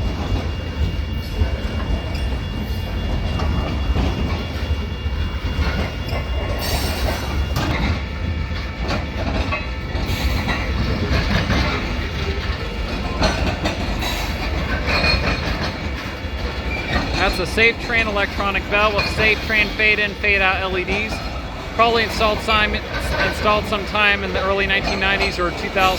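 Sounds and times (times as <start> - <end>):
freight train rumbling past: 0.0 - 25.9
wheels clicking over rail joints: 0.0 - 25.9.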